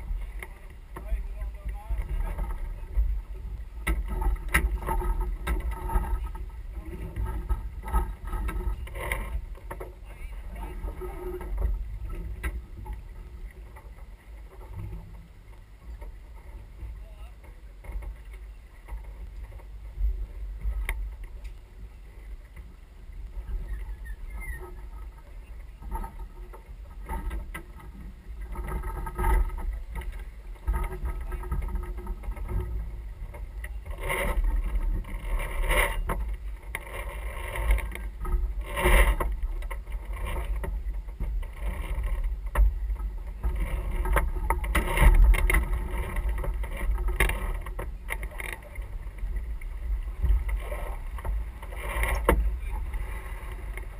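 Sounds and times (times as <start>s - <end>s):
water rushing along hull: 0.0s - 53.9s
wind rumble on microphone: 0.0s - 53.9s.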